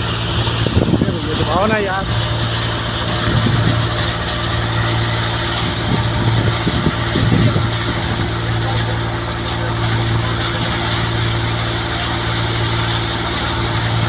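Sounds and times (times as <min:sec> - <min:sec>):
low engine hum: 0:00.0 - 0:14.0
threshing drum working crop: 0:00.0 - 0:14.0.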